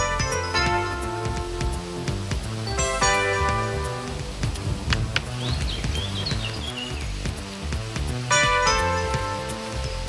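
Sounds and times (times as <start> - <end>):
held instrumental chord: 0.0 - 10.0
repeating bass line: 0.0 - 10.0
steady beat: 0.0 - 10.0.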